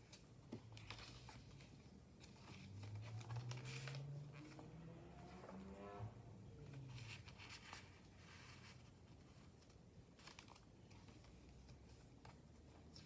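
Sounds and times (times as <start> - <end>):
paper pages rustling: 0.0 - 4.8, 6.6 - 13.0.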